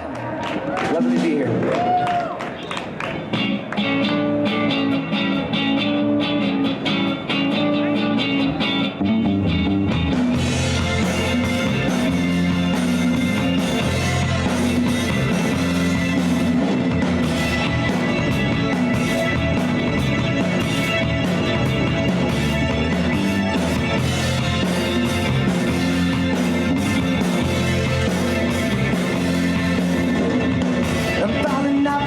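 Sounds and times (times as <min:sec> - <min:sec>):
rock blues band playing: 0:02.8 - 0:32.0.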